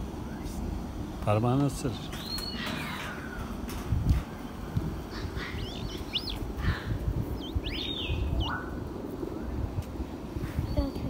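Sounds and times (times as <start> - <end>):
low rumbling background: 0.0 - 11.0
birds chirping: 1.4 - 11.0.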